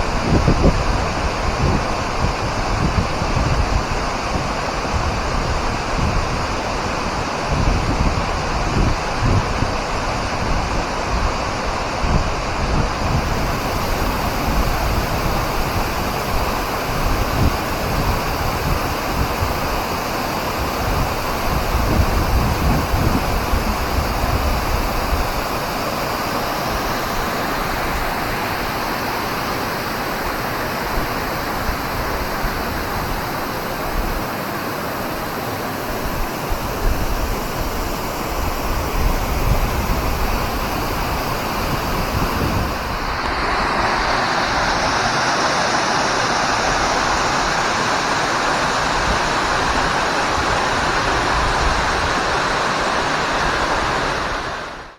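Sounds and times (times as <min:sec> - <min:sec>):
waterfall rushing: 0:00.0 - 0:54.9
wind buffeting microphone: 0:00.0 - 0:54.9.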